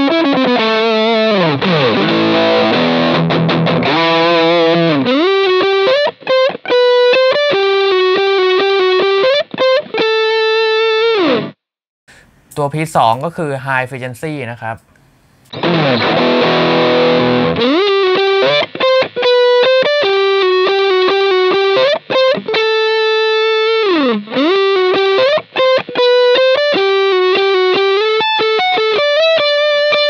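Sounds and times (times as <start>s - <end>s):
distorted electric guitar: 0.0s - 11.6s, 15.5s - 30.0s.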